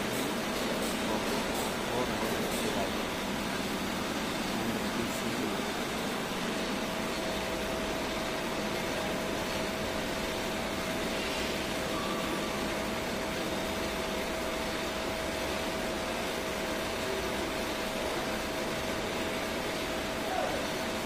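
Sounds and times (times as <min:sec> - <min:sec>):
machine hum and hiss: 0:00.0 - 0:21.0.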